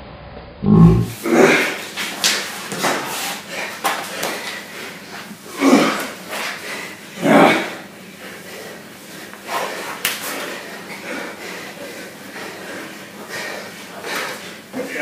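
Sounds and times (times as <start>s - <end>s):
bodies scuffling on rubber floor: 1.5s - 15.0s.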